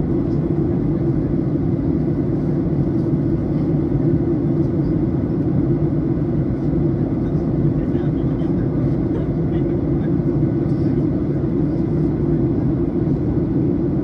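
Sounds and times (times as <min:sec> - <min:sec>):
airplane cabin engine drone: 0:00.0 - 0:14.0.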